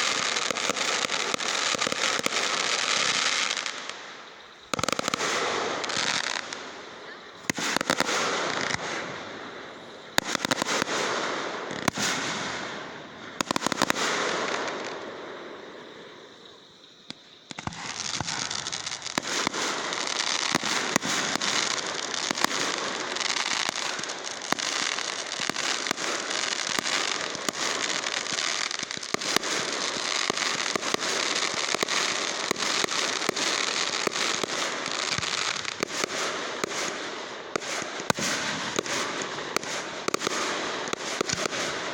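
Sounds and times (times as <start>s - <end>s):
fireworks bangs: 0.0s - 41.9s.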